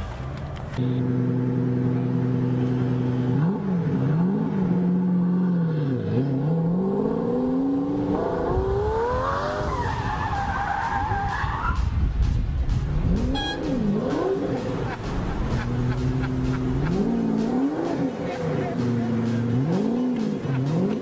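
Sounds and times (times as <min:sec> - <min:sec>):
sports car engine revving: 0:00.8 - 0:09.7, 0:13.0 - 0:21.0.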